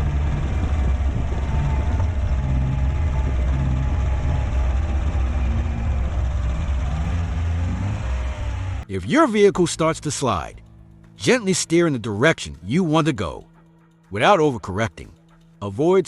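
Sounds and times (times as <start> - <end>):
vehicle engine and road rumble: 0.0 - 15.6.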